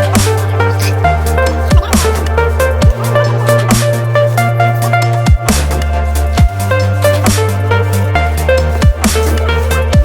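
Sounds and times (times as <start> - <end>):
heavy bass line: 0.0 - 10.0
hi-hats: 0.0 - 10.0.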